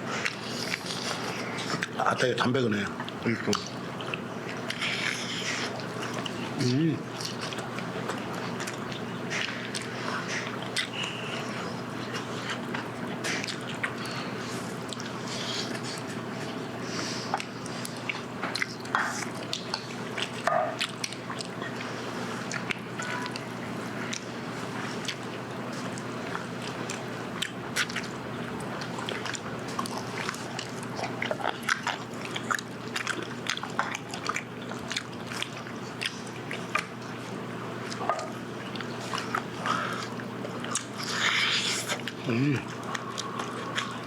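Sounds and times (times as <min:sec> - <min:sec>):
chewing and biting chicken: 0:00.0 - 0:44.0.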